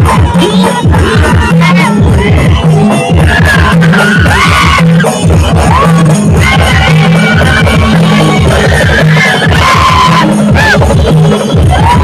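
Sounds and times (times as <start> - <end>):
heavy drum beats: 0.0 - 12.0
steady bass line: 0.0 - 12.0.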